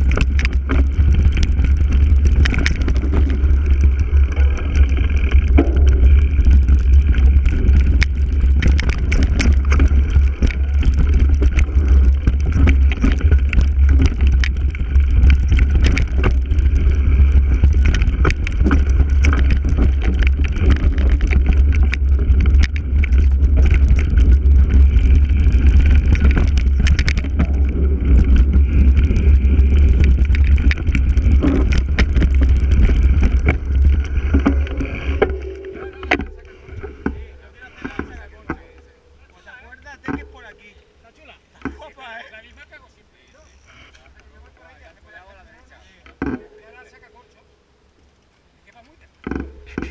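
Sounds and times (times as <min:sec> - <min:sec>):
wind rumbling on microphone: 0:00.0 - 0:42.6
bike rattling over stones: 0:00.0 - 0:47.4, 0:48.2 - 0:49.9.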